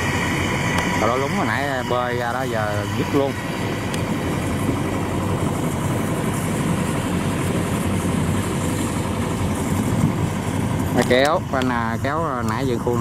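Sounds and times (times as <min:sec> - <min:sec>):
combine harvester engine running: 0:00.0 - 0:13.0.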